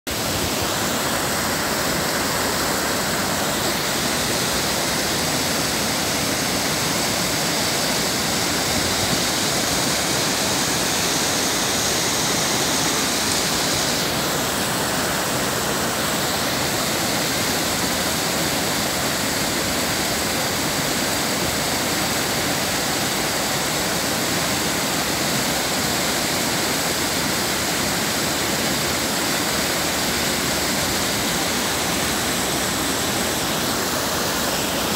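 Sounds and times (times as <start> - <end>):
floodwater rushing over a ledge: 0.1 - 34.9.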